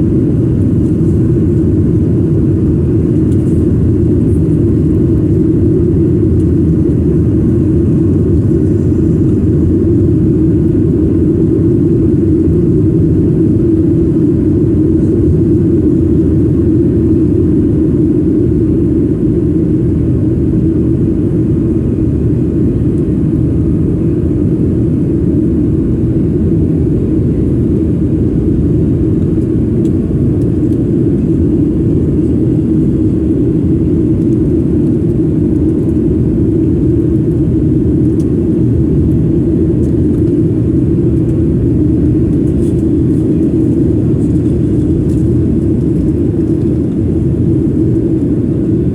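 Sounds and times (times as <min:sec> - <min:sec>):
jet engine cabin rumble: 0:00.0 - 0:48.9.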